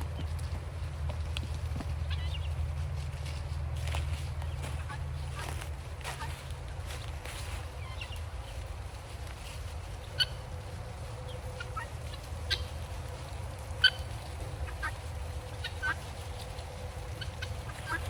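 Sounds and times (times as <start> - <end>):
guinea fowl calls: 1.7 - 18.0.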